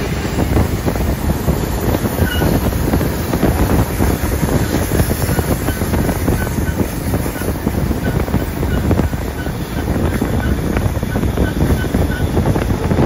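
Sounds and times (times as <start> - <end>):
train rumble: 0.0 - 13.0
wheel and rail clatter: 0.0 - 13.0
wind buffeting microphone: 0.0 - 13.0.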